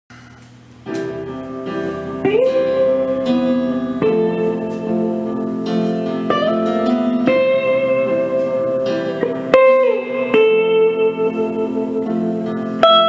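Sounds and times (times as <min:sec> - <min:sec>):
electric guitar music: 0:00.4 - 0:13.0.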